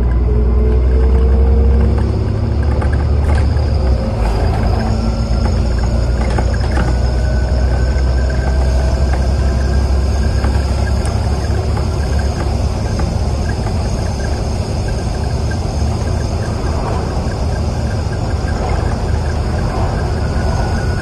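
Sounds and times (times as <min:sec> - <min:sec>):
bus engine droning: 0:00.0 - 0:21.0
road noise rumble: 0:00.0 - 0:21.0.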